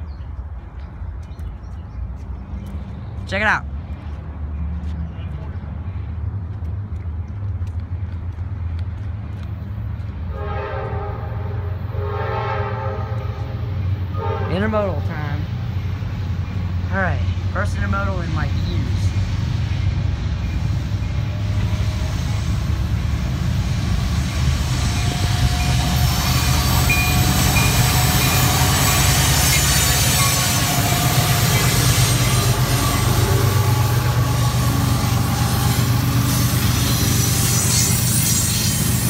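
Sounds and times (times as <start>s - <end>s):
diesel locomotive engine rumble: 0.0s - 39.0s
train wheels rumbling on rails: 6.4s - 39.0s.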